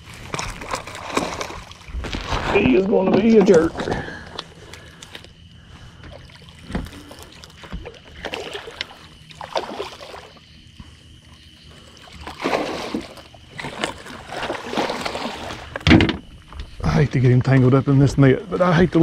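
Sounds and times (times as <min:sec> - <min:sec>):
water splashing and sloshing: 0:00.0 - 0:17.6.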